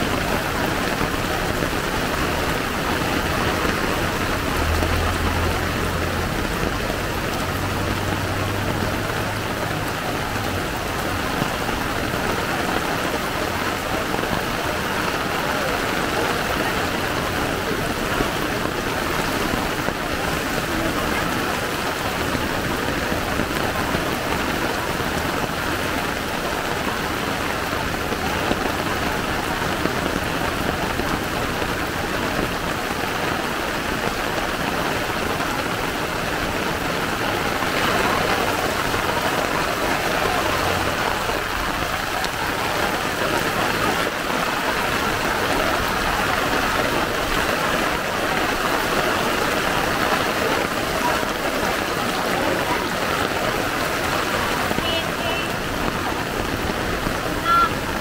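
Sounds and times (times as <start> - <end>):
heavy rain pouring on street: 0.0 - 58.0.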